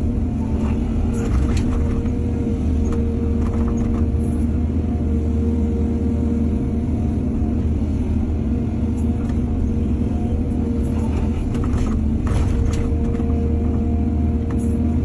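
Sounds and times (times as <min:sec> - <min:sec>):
heavy machine diesel engine running: 0:00.0 - 0:15.0.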